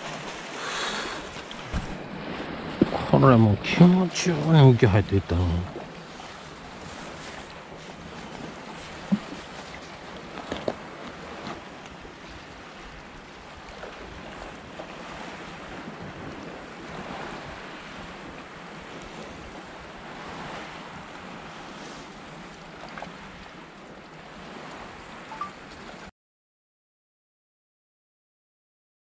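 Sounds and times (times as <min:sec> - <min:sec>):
sea waves at breakwater: 0:00.0 - 0:26.1.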